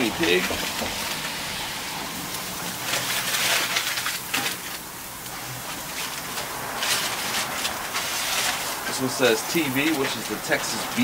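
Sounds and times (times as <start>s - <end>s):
aluminium foil crinkling: 0.0s - 11.0s
patties sizzling on grill: 0.0s - 11.0s.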